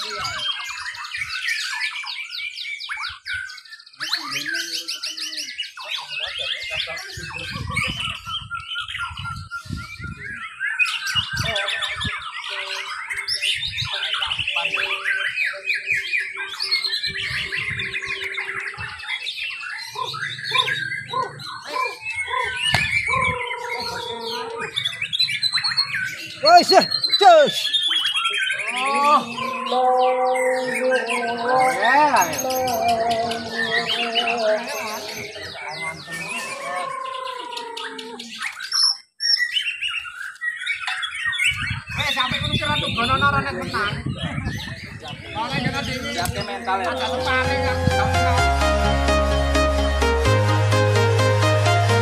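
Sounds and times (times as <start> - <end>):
birds singing whistles and trills: 0.0 - 52.0.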